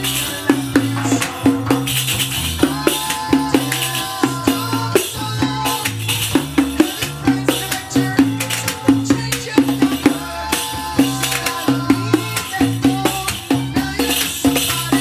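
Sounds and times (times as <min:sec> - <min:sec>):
pop song: 0:00.0 - 0:15.0.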